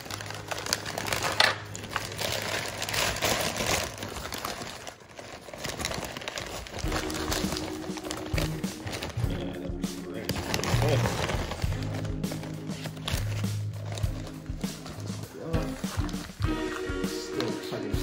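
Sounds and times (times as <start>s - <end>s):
paper wrapping crinkling: 0.0s - 18.0s.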